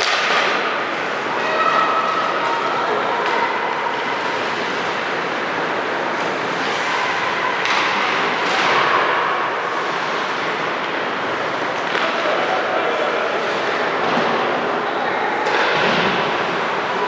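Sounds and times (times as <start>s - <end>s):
skates on ice: 0.0s - 14.8s
crowd noise: 0.0s - 17.0s.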